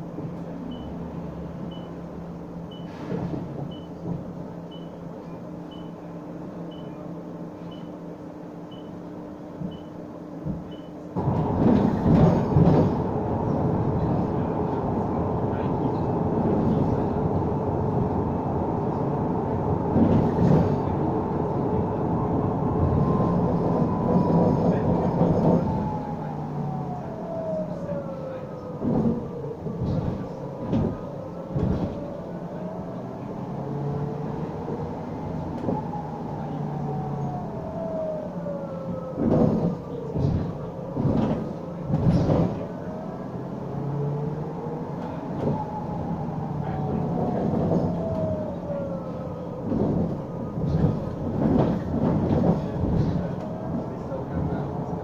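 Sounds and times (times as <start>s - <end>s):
bus engine whine: 0.0s - 55.0s.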